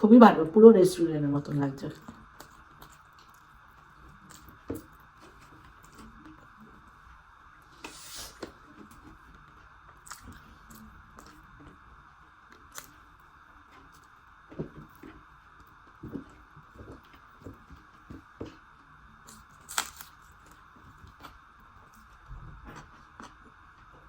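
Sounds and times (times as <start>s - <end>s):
soft chewing and mouth noises: 1.9s - 24.0s.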